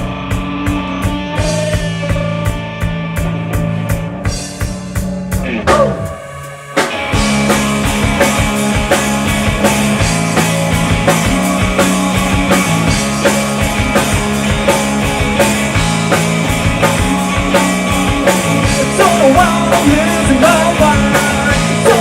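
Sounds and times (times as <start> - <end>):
bass line: 0.0 - 22.0
drums: 0.0 - 22.0
guitar: 0.0 - 22.0.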